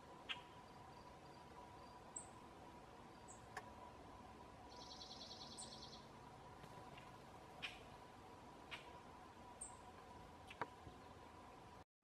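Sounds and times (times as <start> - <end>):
faint steady hum: 0.0 - 11.8.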